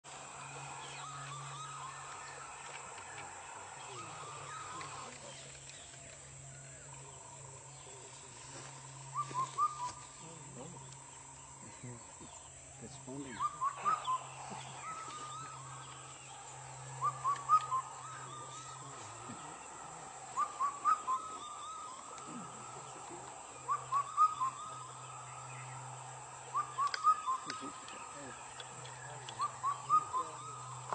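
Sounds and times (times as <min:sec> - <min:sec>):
bird calls: 0:00.0 - 0:30.9
steady low hum: 0:00.0 - 0:30.9.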